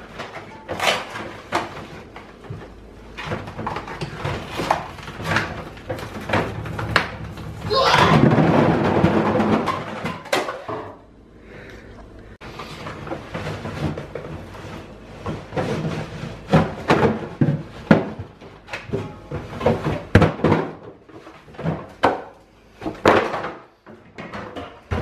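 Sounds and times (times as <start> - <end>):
box and cans scraping and thumping: 0.0 - 11.0, 12.4 - 25.0.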